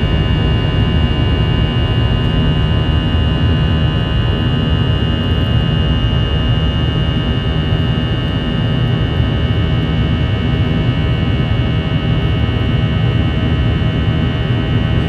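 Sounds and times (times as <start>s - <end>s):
jet engine high whine: 0.0s - 15.0s
jet engine low rumble in cabin: 0.0s - 15.0s.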